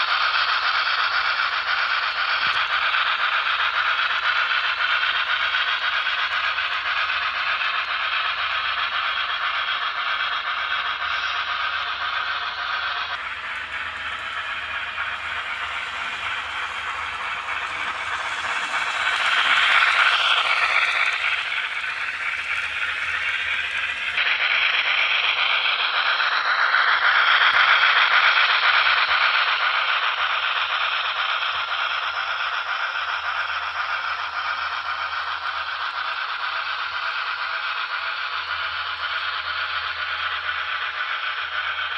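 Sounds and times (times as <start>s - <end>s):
steam engine rattling: 0.0s - 41.9s.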